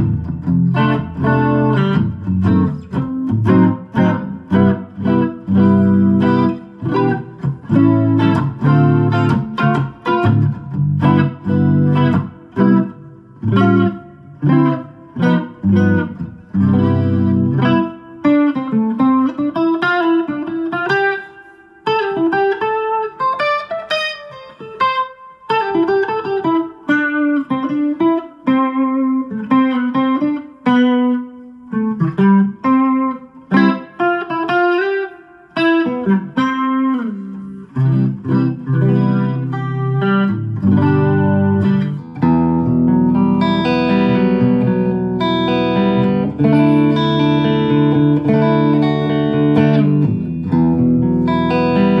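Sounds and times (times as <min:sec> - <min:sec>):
jazzy electric guitar: 0:00.0 - 0:52.0.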